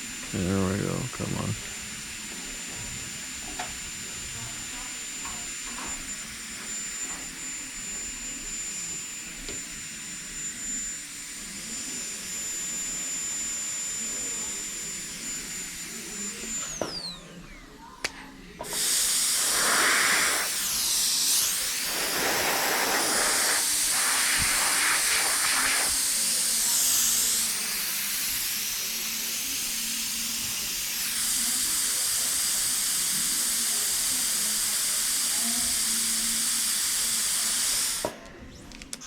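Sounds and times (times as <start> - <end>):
dental drill whining: 0.0 - 39.0.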